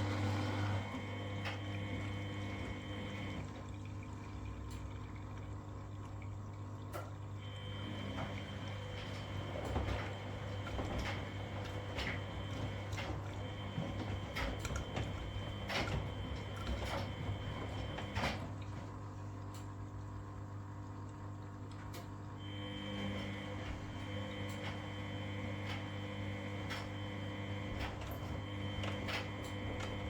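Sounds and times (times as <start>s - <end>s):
washing machine motor hum: 0.0s - 30.0s.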